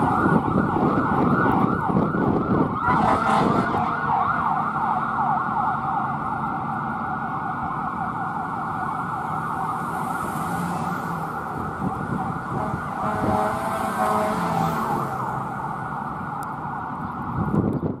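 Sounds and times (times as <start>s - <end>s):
steady held siren tone: 0.0s - 17.1s
fire engine siren yelping: 0.0s - 17.8s.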